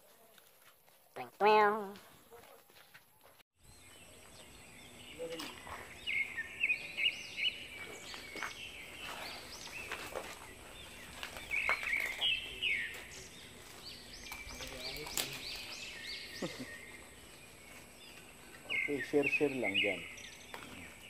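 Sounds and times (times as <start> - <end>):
birds chirping: 3.6 - 21.0.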